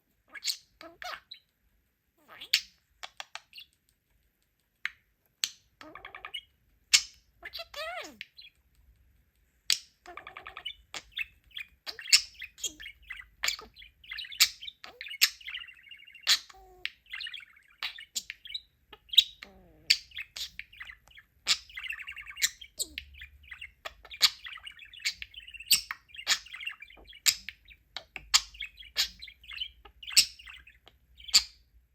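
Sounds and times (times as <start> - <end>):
budgerigar chattering and warbling: 0.3 - 1.5, 5.8 - 8.6, 9.7 - 31.7
budgerigar sharp clicks and chirps: 2.3 - 4.0, 4.8 - 31.8.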